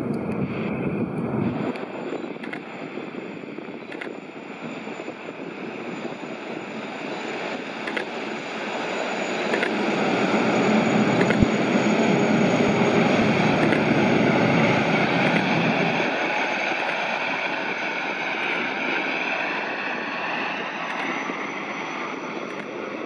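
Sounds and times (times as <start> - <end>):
ferry turbine whine: 0.0 - 23.0.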